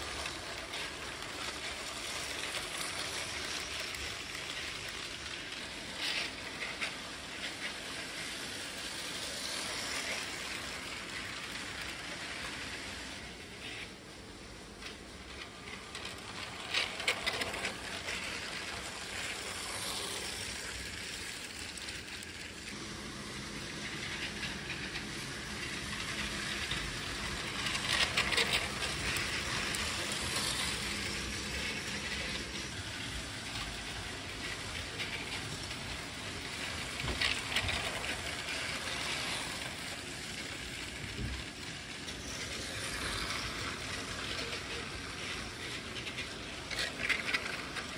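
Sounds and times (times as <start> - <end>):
toy trains rattling on plastic track: 0.0 - 47.9
wheels clicking over track joints: 0.0 - 47.9.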